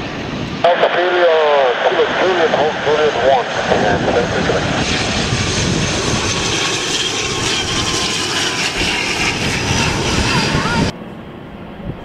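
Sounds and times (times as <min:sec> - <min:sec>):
turboprop airliner drone: 0:00.0 - 0:12.0.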